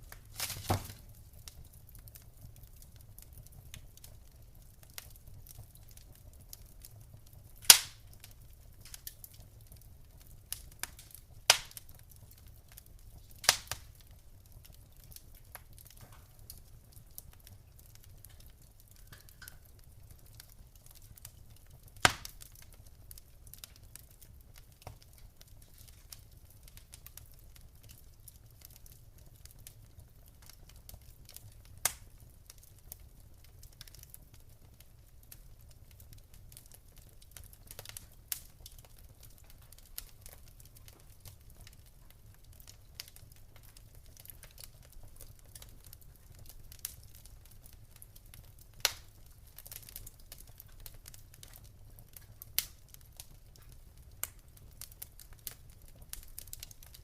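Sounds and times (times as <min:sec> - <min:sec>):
loud sharp pops of fire: 0:00.0 - 0:04.2, 0:07.2 - 0:09.5, 0:10.1 - 0:14.2, 0:14.8 - 0:28.0, 0:30.4 - 0:32.7, 0:35.6 - 0:57.0
low rumble of burning fire: 0:00.0 - 0:57.0
wood fire crackling: 0:00.0 - 0:57.0.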